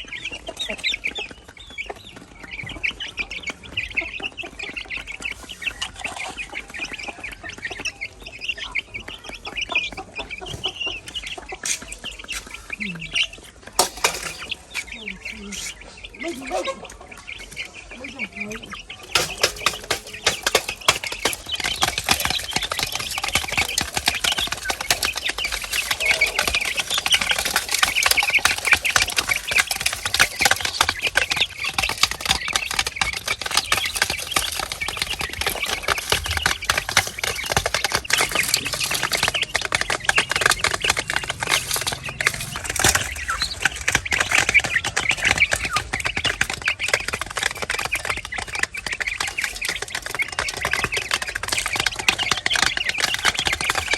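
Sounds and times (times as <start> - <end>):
chickens calling: 0.0 - 53.9
chickens pecking: 0.0 - 53.9.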